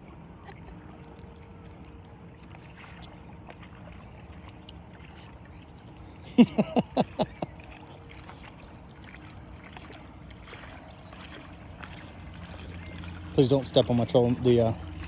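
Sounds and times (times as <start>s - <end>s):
water lapping: 0.0s - 15.0s.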